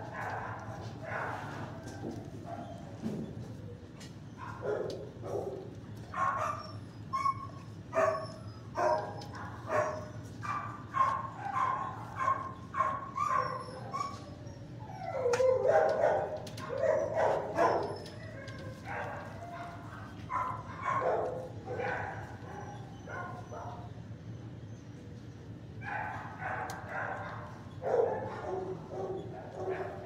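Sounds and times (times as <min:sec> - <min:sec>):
dogs barking and yipping: 0:00.0 - 0:03.2, 0:03.9 - 0:30.0
dogs yelping: 0:00.0 - 0:30.0.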